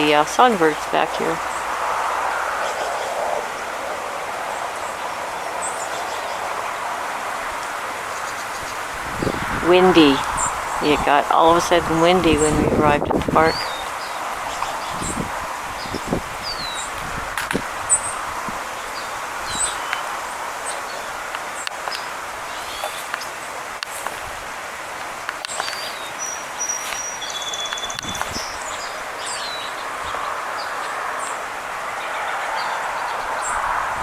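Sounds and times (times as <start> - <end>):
songbirds chirping: 0.0 - 24.2, 25.1 - 33.9
wind in the trees: 0.0 - 34.0.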